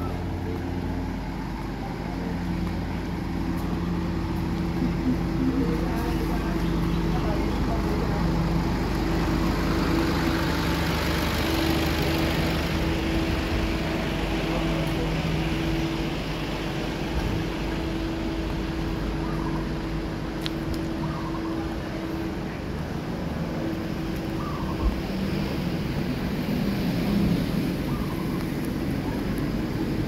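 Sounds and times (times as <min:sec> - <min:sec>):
truck engine humming: 0:00.0 - 0:30.0.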